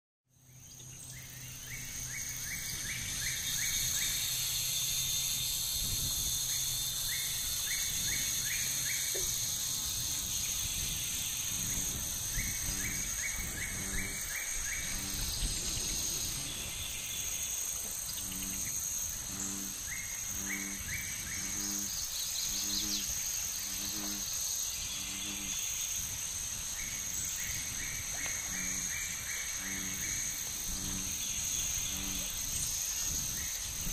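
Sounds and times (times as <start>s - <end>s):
high insect buzz: 0.3s - 33.9s.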